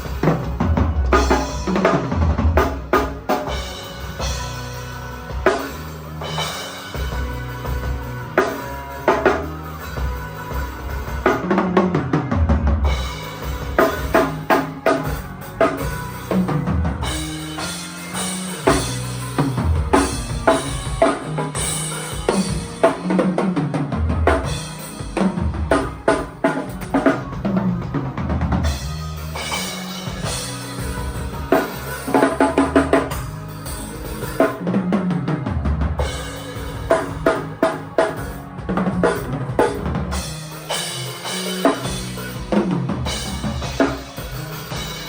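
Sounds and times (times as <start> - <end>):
drum kit played hard: 0.0 - 45.0
low bass notes: 0.0 - 45.0.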